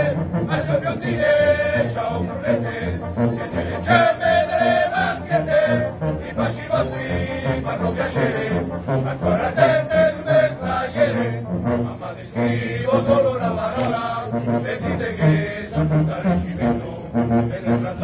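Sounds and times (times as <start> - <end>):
male chorus singing in unison: 0.0 - 18.0.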